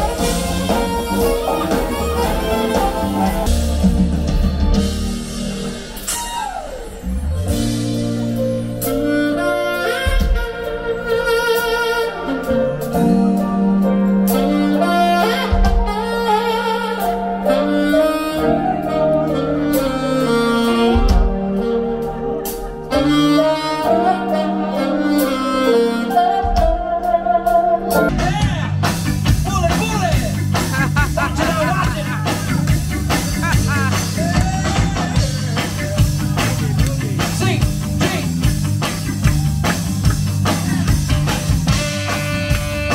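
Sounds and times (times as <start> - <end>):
busy full-band song: 0.0 - 42.9
live band with saxophone: 0.0 - 42.9.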